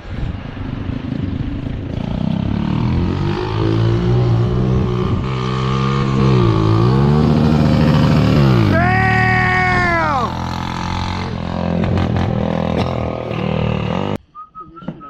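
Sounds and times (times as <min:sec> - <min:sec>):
off-road vehicle engine passing: 0:00.4 - 0:14.2.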